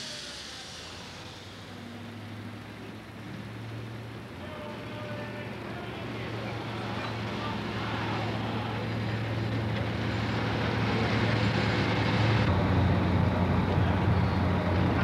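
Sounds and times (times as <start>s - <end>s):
diesel tractor engine droning: 0.0s - 15.0s
diesel tractor engine under load: 0.0s - 15.0s.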